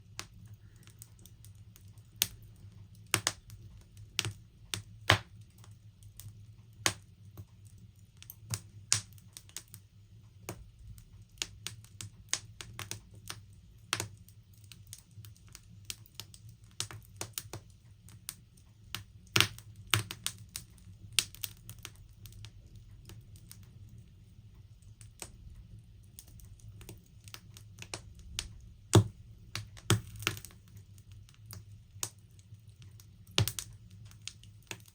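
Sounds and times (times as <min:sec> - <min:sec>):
wood crackling in fire: 0:00.0 - 0:34.9.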